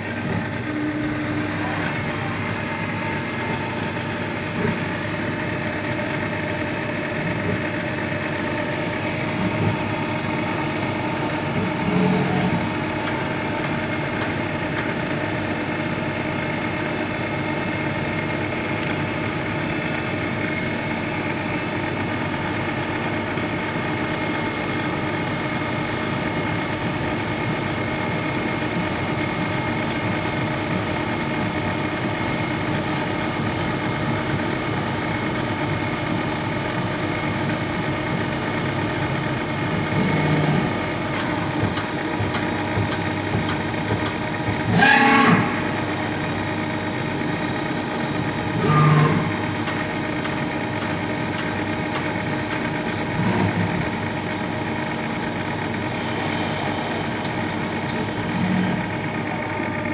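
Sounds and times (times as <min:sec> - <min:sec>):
lathe machine hum: 0:00.0 - 0:59.9.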